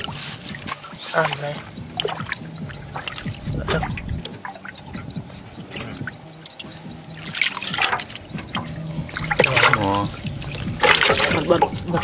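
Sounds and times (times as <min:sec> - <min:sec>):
fish thrashing and splashing: 0:00.0 - 0:12.0
shallow water trickling: 0:00.0 - 0:12.0.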